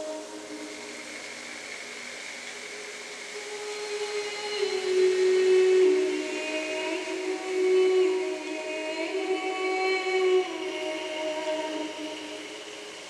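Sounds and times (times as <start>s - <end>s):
woman singing wordless held tones: 0.0s - 2.0s, 3.2s - 13.0s.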